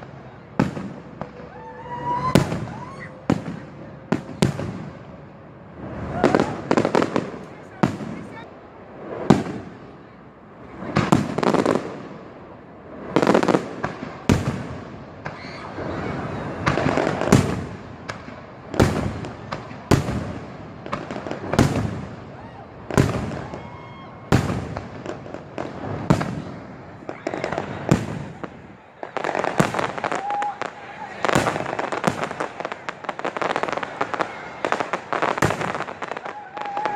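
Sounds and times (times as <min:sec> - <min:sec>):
fireworks bangs with echo: 0:00.0 - 0:36.9.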